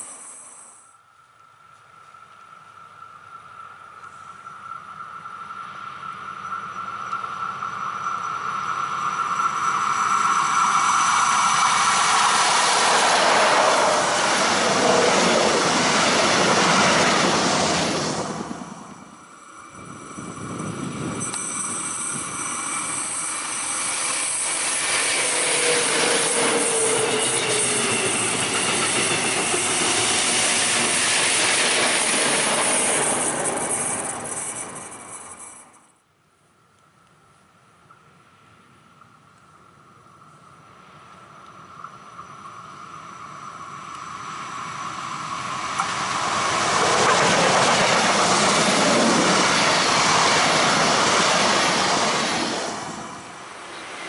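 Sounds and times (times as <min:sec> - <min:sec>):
electric train high whine: 0:00.0 - 0:36.0, 0:39.0 - 0:54.0
wheel-on-rail rolling noise: 0:03.2 - 0:35.9, 0:40.2 - 0:54.0.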